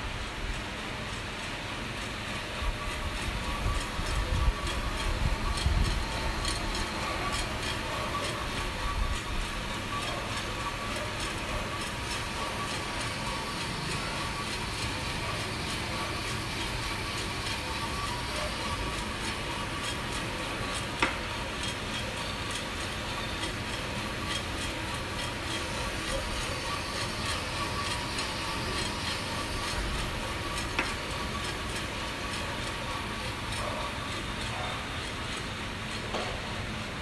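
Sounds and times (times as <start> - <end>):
coffee roaster whirring: 0.0 - 37.0.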